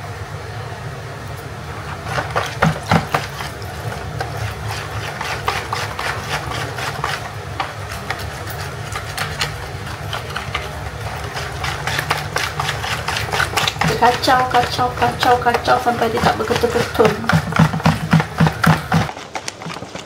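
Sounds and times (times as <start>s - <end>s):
wire whisk scraping a plastic bowl: 1.8s - 20.0s.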